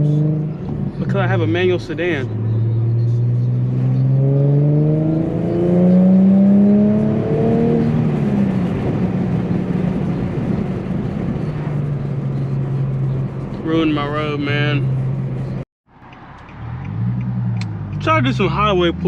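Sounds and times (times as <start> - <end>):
car engine accelerating: 0.0 - 19.0
road and tyre noise: 0.0 - 19.0.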